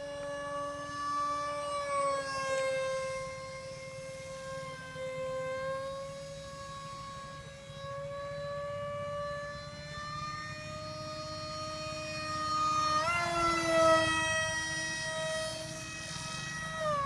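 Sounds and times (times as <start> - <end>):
model aircraft motor whine: 0.0 - 17.0.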